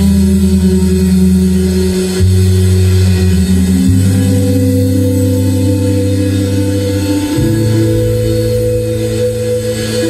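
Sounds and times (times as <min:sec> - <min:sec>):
bass guitar notes: 0:00.0 - 0:10.0
electric guitars: 0:00.0 - 0:10.0.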